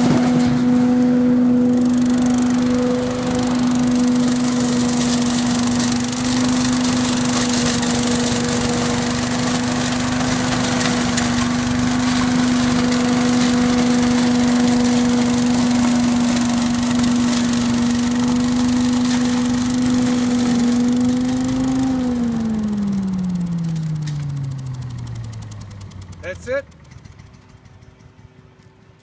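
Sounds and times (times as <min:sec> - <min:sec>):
small engine running steadily: 0:00.0 - 0:29.0.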